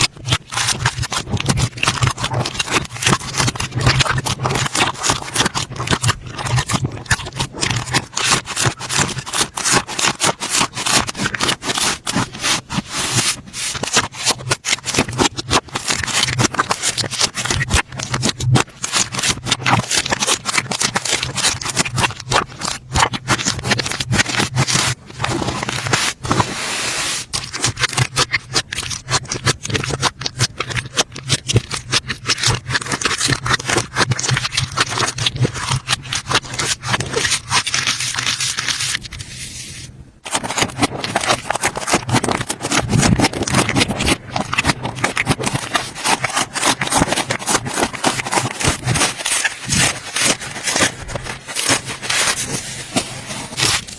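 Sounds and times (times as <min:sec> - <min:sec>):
slime crackling and popping: 0:00.0 - 0:26.5, 0:27.1 - 0:39.4, 0:40.2 - 0:53.9.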